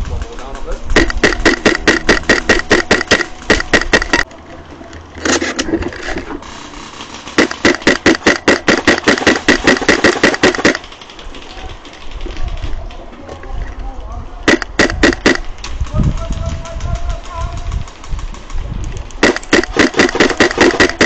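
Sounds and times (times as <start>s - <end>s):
airsoft guns firing bursts: 0.0s - 4.3s, 6.4s - 12.6s, 14.5s - 21.0s.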